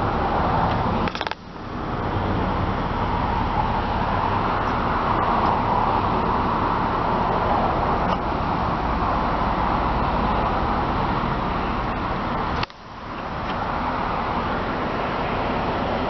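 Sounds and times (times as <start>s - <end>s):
low engine hum: 0.0s - 16.0s
road traffic noise: 0.0s - 16.0s.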